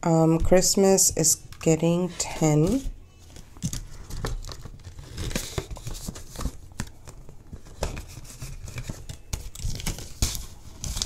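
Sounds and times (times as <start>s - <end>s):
banknotes and plastic pocket rustling: 1.6s - 11.0s.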